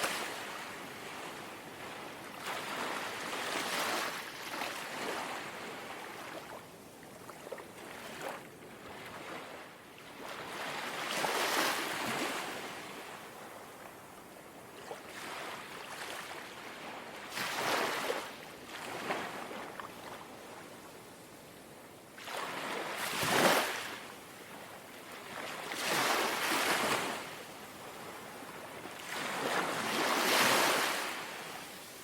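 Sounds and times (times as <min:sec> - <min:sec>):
waves lapping against shore: 0:00.0 - 0:14.0, 0:14.6 - 0:21.0, 0:22.2 - 0:32.0.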